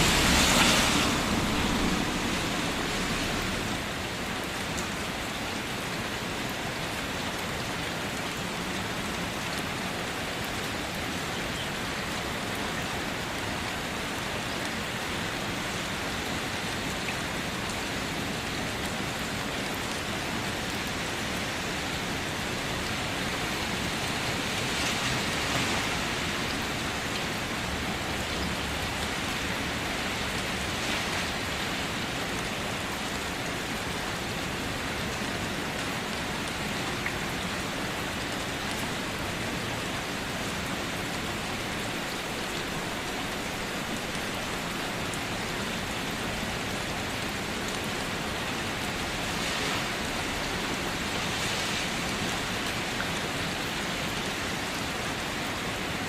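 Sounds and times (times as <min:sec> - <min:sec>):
rain falling on a car: 0:00.0 - 0:56.0.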